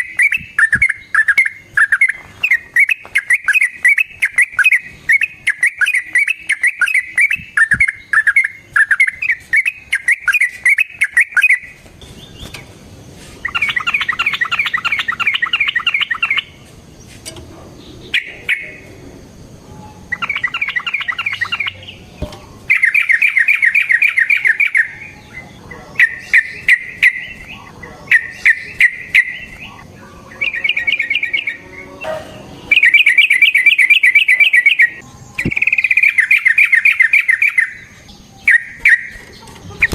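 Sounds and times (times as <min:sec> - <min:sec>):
bird singing rattling phrases: 0:00.0 - 0:39.9.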